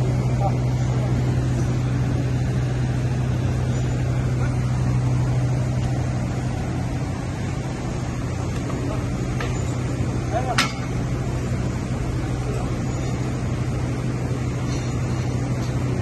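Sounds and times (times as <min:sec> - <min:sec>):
ventilation fans droning: 0:00.0 - 0:16.0.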